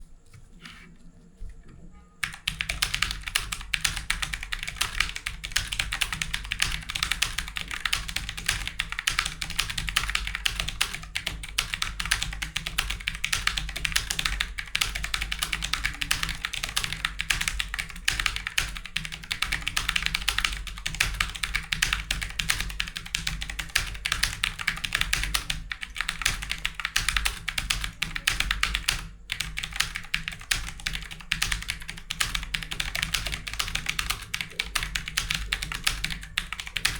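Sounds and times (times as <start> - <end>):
fast typing on computer keyboard: 2.2 - 36.9.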